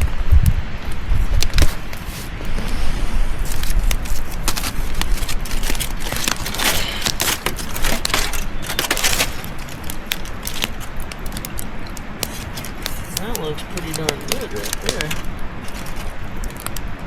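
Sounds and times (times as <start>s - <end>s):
campfire crackling and popping: 0.0s - 17.0s
foil crinkling: 1.4s - 2.5s, 3.4s - 17.0s.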